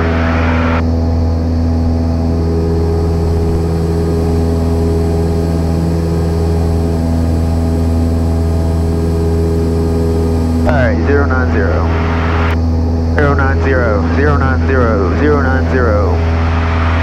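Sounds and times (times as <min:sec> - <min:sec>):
plane engine and propeller droning: 0:00.0 - 0:17.0.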